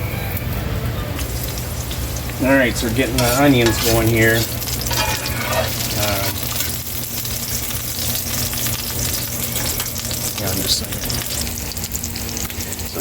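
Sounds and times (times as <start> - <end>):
onions sizzling in a pan: 1.2 - 13.0.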